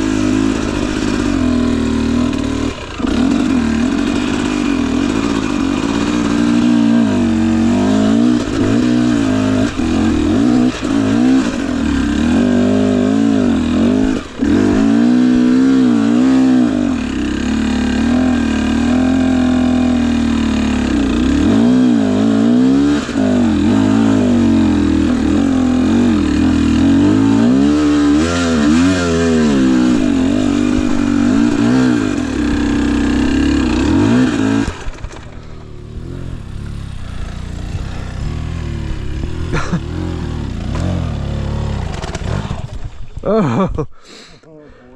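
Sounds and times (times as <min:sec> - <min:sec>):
dirt bike engine revving: 0:00.0 - 0:43.8.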